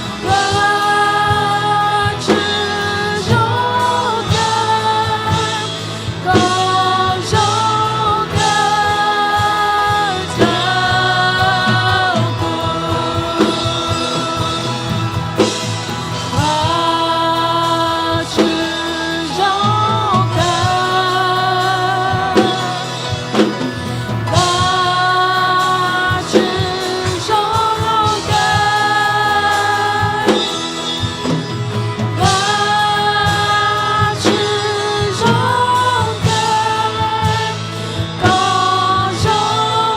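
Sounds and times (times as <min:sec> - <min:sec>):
band with bass and drums: 0:00.0 - 0:39.9
voices singing worship song: 0:00.0 - 0:39.9.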